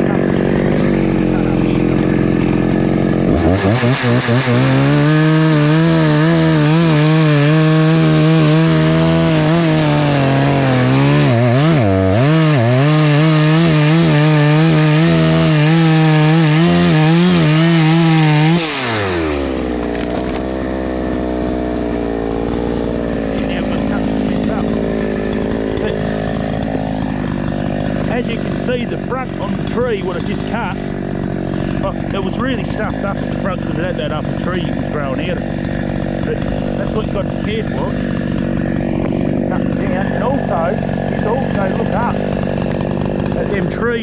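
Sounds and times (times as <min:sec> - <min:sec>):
chainsaw cutting tree trunk: 0:00.0 - 0:44.0.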